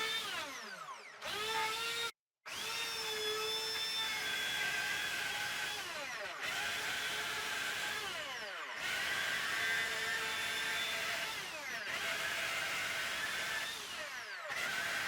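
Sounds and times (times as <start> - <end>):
power tool motor running: 0.0 - 15.0.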